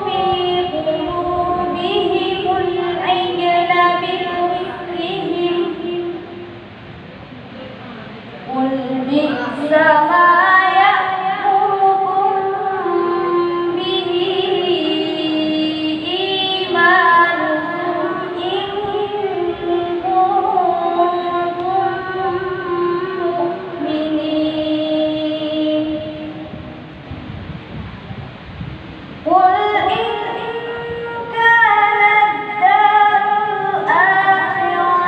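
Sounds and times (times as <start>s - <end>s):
woman chanting melodically: 0.0s - 6.9s, 7.6s - 26.8s, 29.2s - 35.0s.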